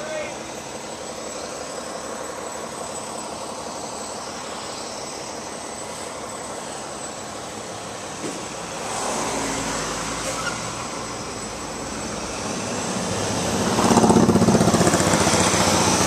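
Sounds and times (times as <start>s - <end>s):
heavy vehicle humming: 0.0s - 16.0s
street traffic noise: 0.0s - 16.0s.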